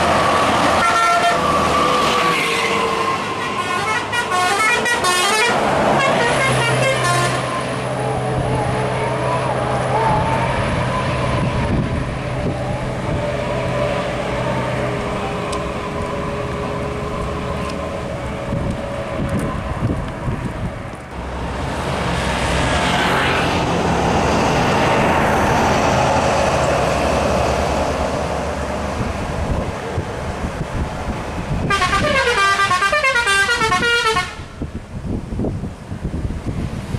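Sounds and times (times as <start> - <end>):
heavy vehicles driving past: 0.0 - 36.9
road noise: 0.0 - 36.9.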